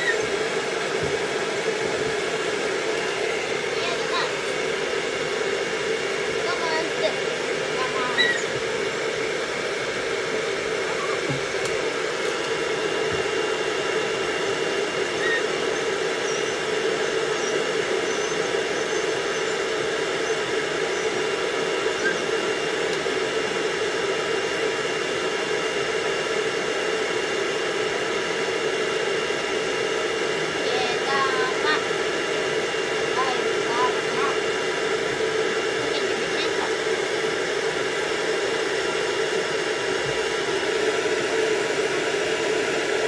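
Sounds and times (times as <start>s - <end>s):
pet dryer blowing air: 0.0s - 43.0s.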